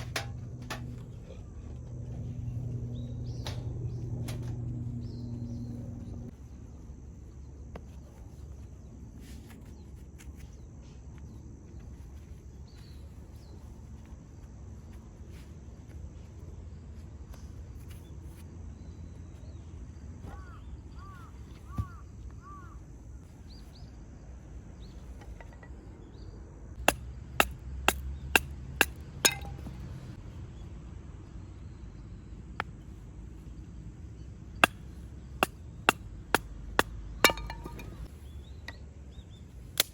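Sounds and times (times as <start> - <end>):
low outdoor rumble: 0.0 - 39.9.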